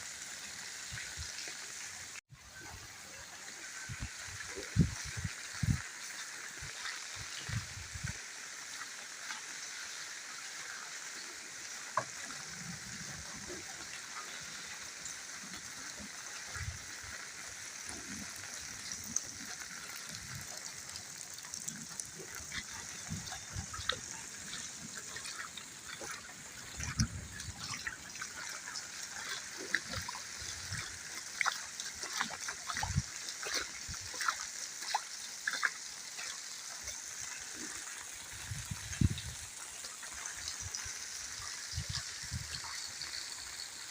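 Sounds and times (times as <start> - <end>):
drips and splashes: 0.0 - 43.9
steady rain hiss: 0.0 - 43.9.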